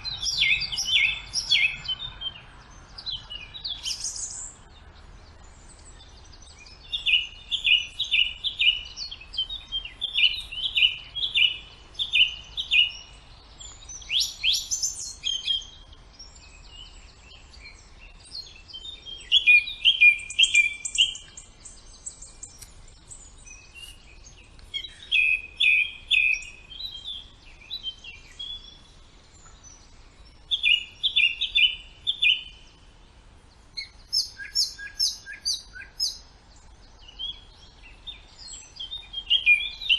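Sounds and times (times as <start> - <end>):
birds singing: 0.0 - 39.9
high sweeping bird calls: 0.0 - 39.9.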